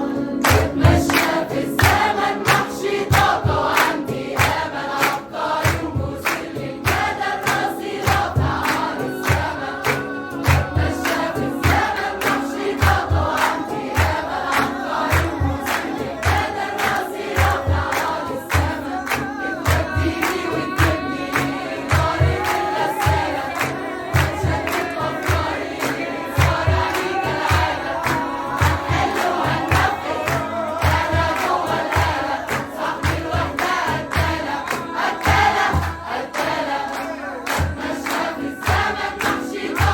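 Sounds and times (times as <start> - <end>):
choir singing pop song: 0.0 - 39.9
sharp claps or snare strokes: 0.4 - 39.9.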